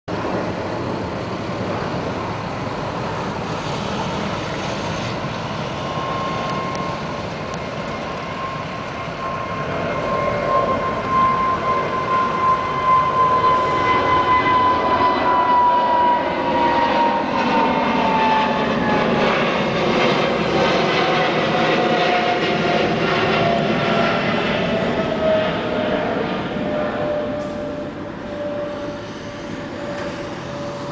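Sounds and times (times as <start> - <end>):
jet engine roar and whine: 0.1 - 30.9.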